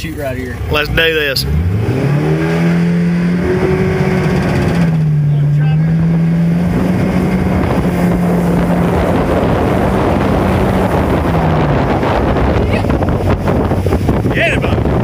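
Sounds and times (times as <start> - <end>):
outboard engine hum: 0.0 - 15.0
rush of wind and water: 0.0 - 15.0.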